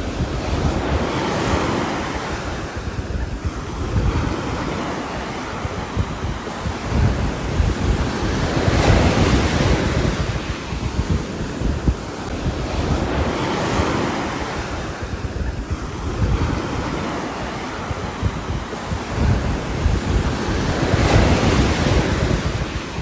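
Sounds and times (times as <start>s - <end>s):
gusting wind: 0.0s - 23.0s.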